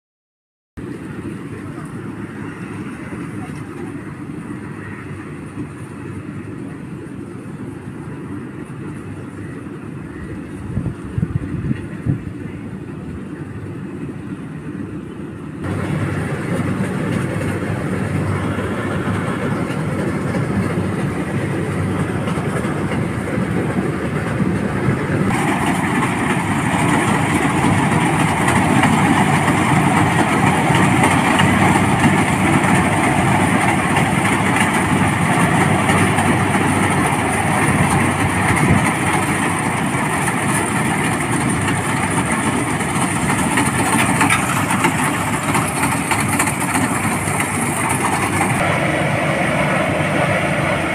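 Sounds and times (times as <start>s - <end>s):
combine harvester running: 0.8s - 50.9s.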